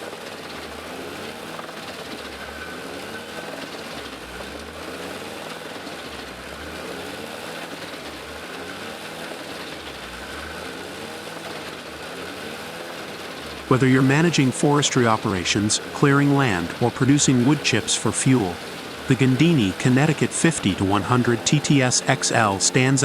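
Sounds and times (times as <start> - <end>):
wood chipper droning: 0.0 - 23.0.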